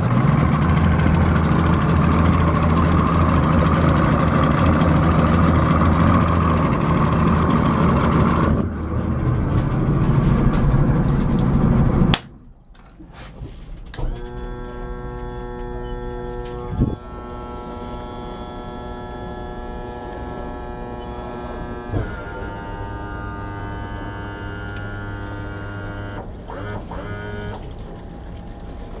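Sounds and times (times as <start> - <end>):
outboard motor idling: 0.0 - 12.2, 13.4 - 29.0.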